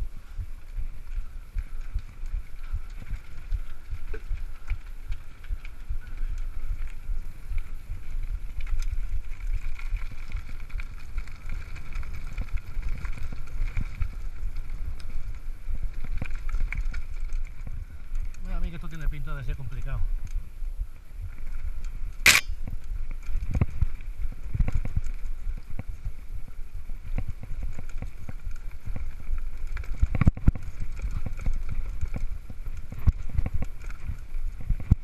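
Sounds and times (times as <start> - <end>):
bike rattling over bumps: 0.0 - 35.0
bike tyres rumbling on gravel: 0.0 - 35.0
wind buffeting microphone: 0.0 - 35.0.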